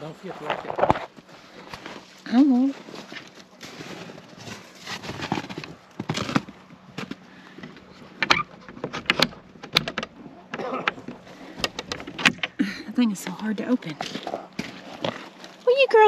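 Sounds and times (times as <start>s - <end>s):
scraping and handling: 0.0s - 16.0s.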